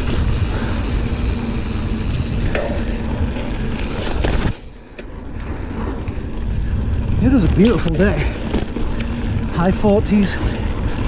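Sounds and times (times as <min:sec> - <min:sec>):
bike clicks and rattles: 0:00.0 - 0:11.0
bike tyres on dirt: 0:00.0 - 0:11.0
wind on microphone: 0:00.0 - 0:11.0.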